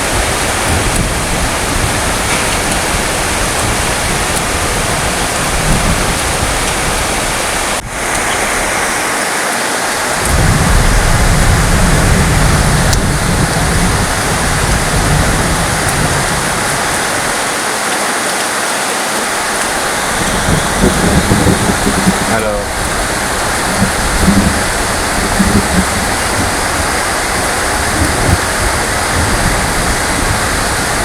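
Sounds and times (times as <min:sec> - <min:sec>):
thunder rumbling: 0:00.0 - 0:08.9, 0:10.0 - 0:17.6, 0:19.3 - 0:31.0
heavy rain pouring: 0:00.0 - 0:31.0.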